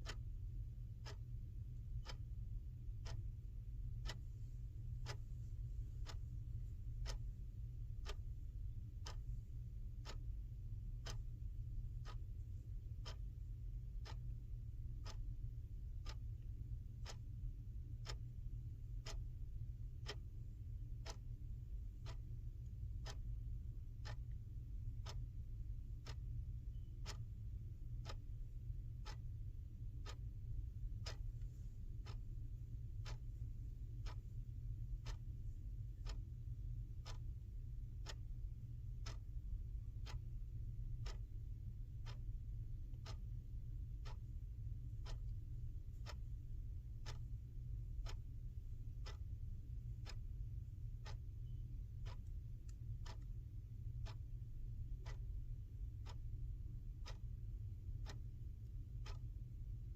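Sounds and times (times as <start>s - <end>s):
clock ticking: 0.0s - 59.9s
steady low hum: 0.0s - 59.9s.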